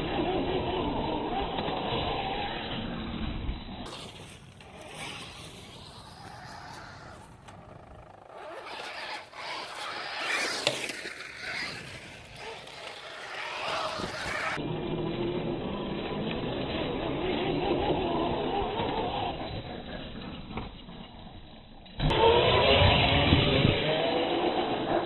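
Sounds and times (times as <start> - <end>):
electric motor of toy truck: 0.0 - 20.2, 22.0 - 25.0.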